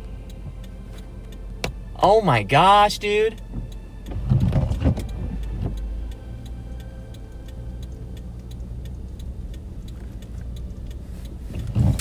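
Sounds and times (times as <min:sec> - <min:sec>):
car indicator ticking: 0:00.0 - 0:12.0
low rumble of car driving: 0:00.0 - 0:12.0.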